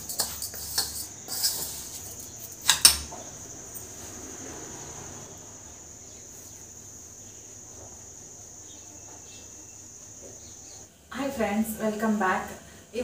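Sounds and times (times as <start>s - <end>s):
high-pitched insect trill: 0.0s - 10.9s.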